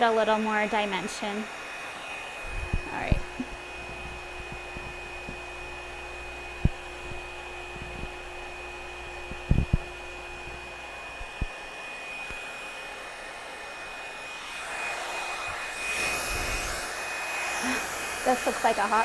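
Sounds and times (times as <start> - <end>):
hot-air brush dryer running: 0.0 - 19.0.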